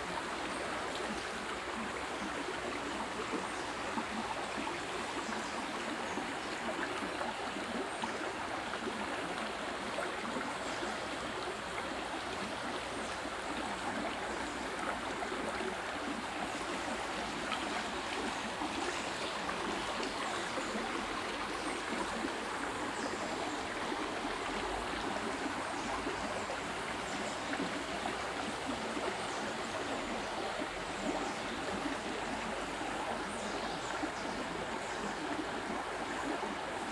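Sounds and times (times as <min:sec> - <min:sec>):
running water: 0:00.0 - 0:36.9.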